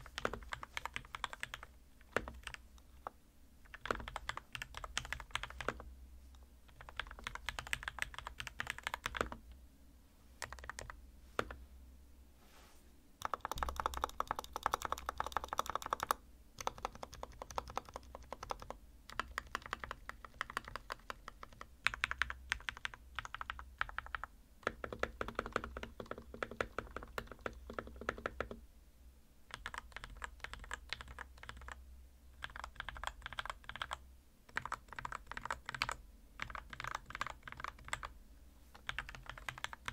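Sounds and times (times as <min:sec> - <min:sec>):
mechanical keyboard typing: 0:00.0 - 0:05.9, 0:06.7 - 0:09.4, 0:10.4 - 0:11.6, 0:13.2 - 0:28.6, 0:29.5 - 0:31.8, 0:32.4 - 0:38.1, 0:38.8 - 0:39.9.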